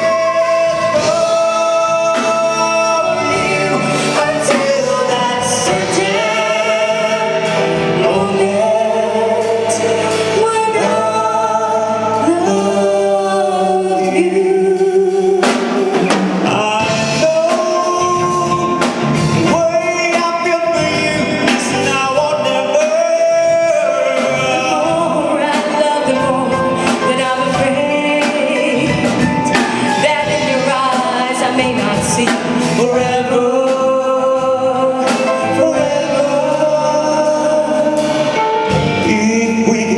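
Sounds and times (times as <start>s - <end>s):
live band playing: 0.0s - 39.9s
person singing: 0.0s - 39.9s.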